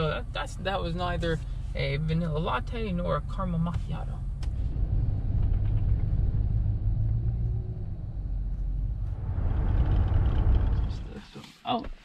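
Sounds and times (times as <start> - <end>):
car cabin road rumble: 0.0 - 11.8.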